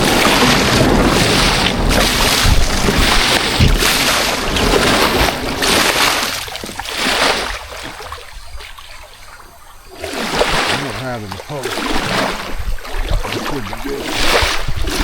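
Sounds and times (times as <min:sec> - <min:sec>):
wind rumbling on microphone: 0:00.0 - 0:08.8, 0:11.7 - 0:15.0
water splashing around kayak: 0:00.0 - 0:15.0.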